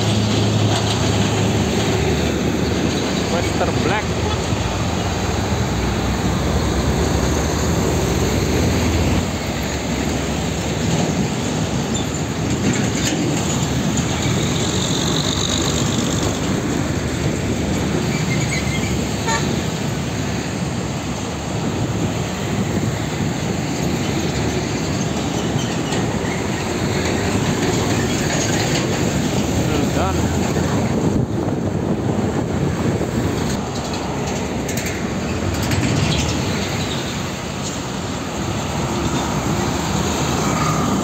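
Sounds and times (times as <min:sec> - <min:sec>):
diesel trucks passing: 0:00.0 - 0:41.0
tyre and road noise: 0:00.0 - 0:41.0.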